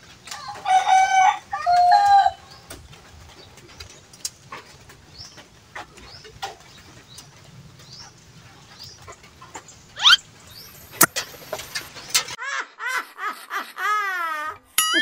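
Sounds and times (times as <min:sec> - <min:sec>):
chickens chirping: 0:00.1 - 0:12.4.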